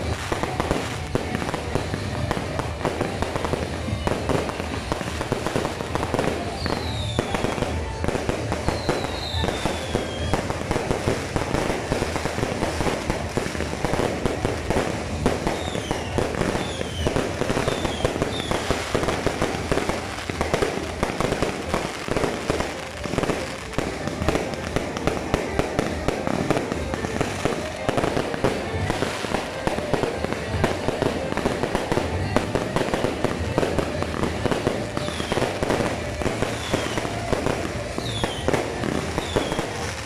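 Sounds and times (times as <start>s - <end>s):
fireworks cracking and popping: 0.0s - 40.0s
fireworks whistles falling in pitch: 0.0s - 40.0s.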